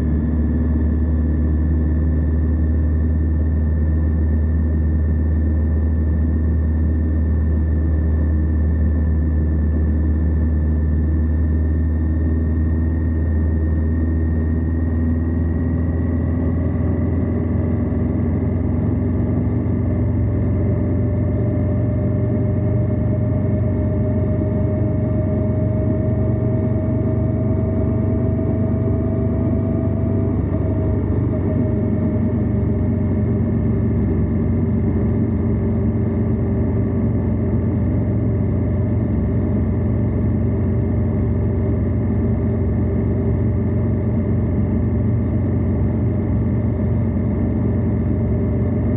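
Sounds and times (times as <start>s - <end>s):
faint whine: 0.0s - 48.9s
motorcycle engine running: 0.0s - 48.9s
road and wind noise: 0.0s - 48.9s.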